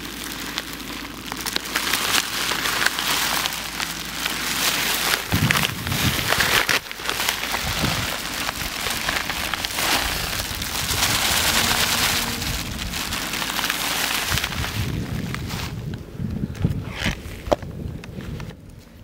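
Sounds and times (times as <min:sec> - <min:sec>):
groundbait mixed by hand rustling: 0:00.0 - 0:16.0.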